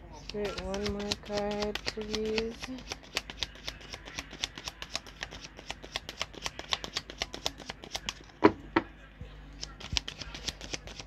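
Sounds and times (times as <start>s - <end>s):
cards being shuffled: 0.2s - 8.5s, 9.5s - 11.0s.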